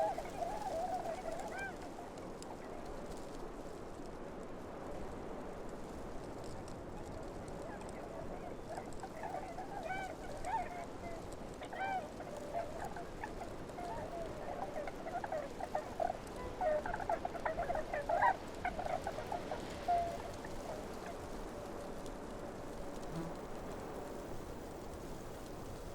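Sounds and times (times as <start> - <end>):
steady outdoor hiss: 0.0 - 25.9.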